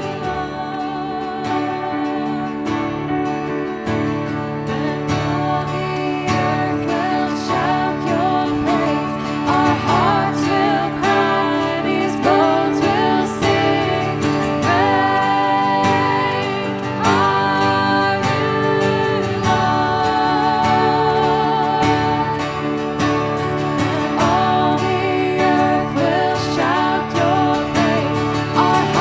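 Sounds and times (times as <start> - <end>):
person singing: 0.0 - 3.6, 4.4 - 29.0
strummed acoustic guitar: 0.0 - 29.0.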